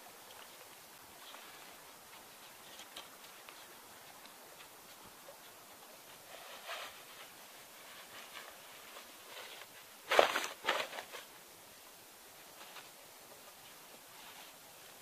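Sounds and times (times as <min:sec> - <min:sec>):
faint fabric rustling: 0:00.0 - 0:15.0.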